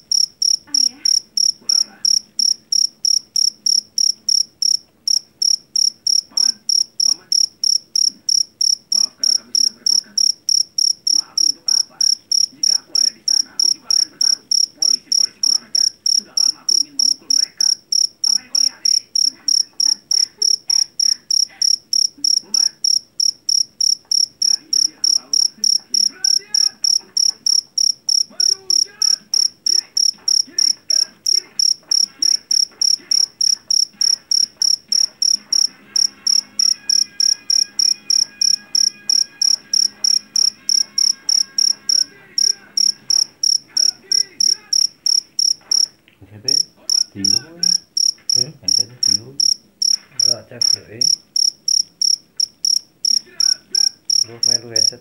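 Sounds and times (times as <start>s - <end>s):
cricket shrill chirping: 0.0s - 55.0s.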